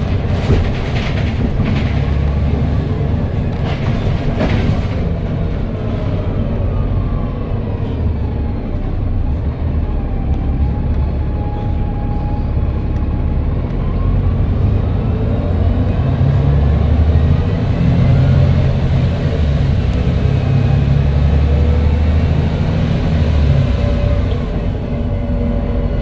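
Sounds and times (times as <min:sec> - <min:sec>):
bus diesel engine drone: 0:00.0 - 0:26.0.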